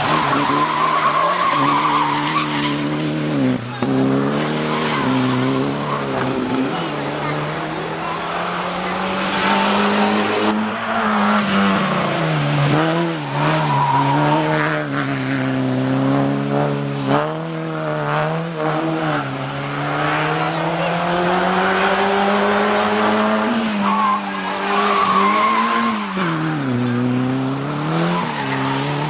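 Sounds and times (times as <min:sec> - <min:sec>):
racing car engine revving: 0:00.0 - 0:29.0.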